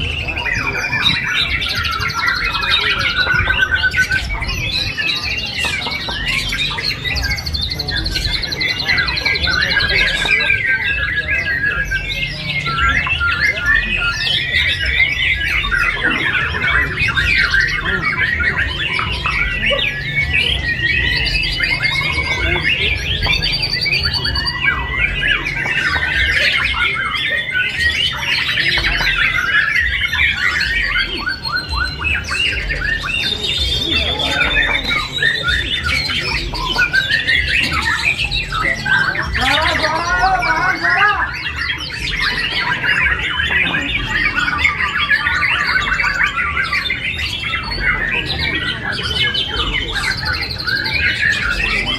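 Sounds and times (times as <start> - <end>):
chorus of songbirds singing: 0.0 - 51.9.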